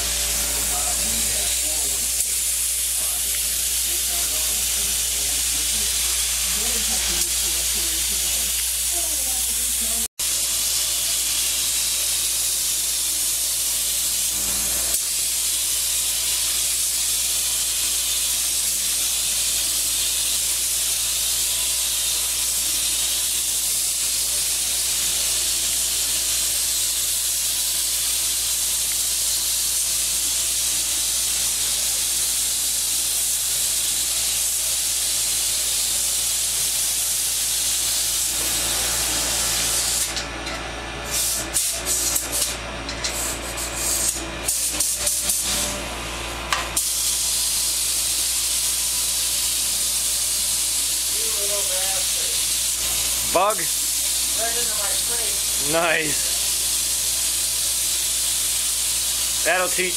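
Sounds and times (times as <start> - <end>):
paint spray gun hissing: 0.0 - 40.2, 41.1 - 42.5, 46.8 - 59.9.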